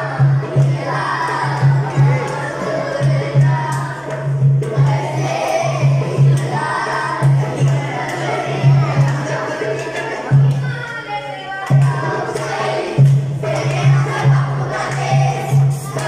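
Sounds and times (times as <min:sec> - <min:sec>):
children shouting and cheering: 0:00.0 - 0:04.2, 0:04.8 - 0:16.0.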